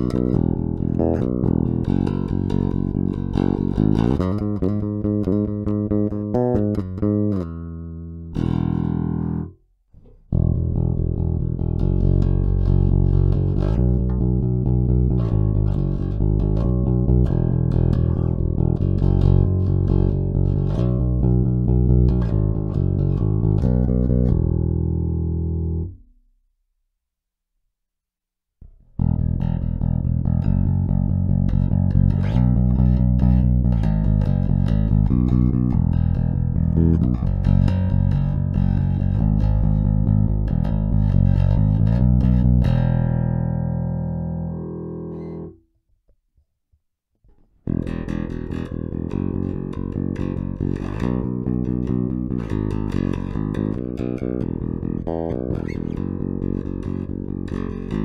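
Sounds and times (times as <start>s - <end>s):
electric bass plucked notes: 0.0s - 26.1s, 28.6s - 45.6s, 47.6s - 58.0s.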